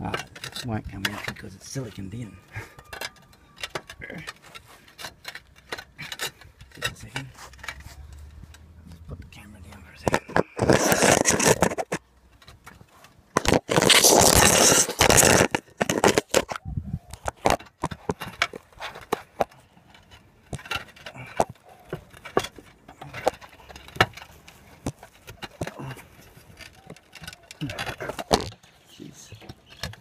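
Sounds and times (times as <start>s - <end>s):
roof tiles scraping: 0.0s - 30.0s.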